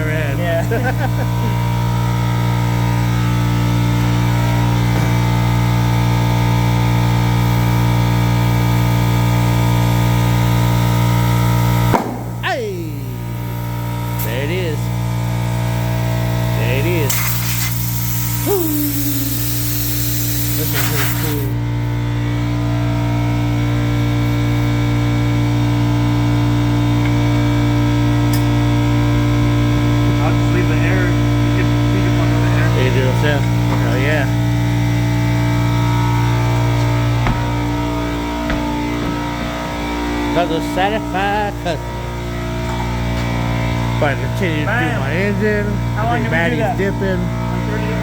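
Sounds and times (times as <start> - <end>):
air compressor drone: 0.0 - 48.0.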